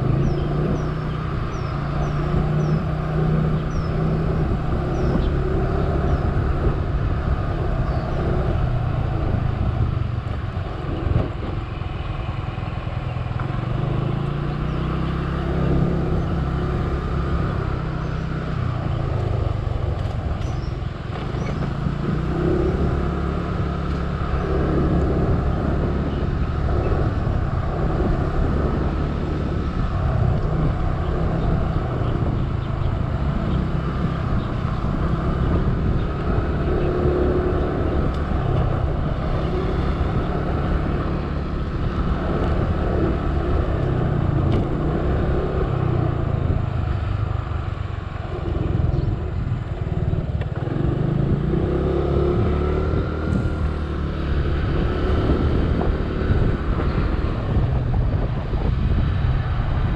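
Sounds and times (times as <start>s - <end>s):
road and wind noise: 0.0s - 59.9s
scooter engine running: 0.0s - 59.9s.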